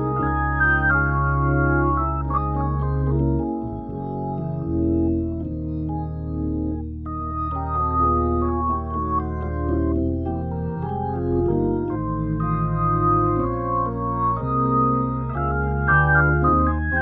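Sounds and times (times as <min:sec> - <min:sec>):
organ playing gospel chords: 0:00.0 - 0:17.0.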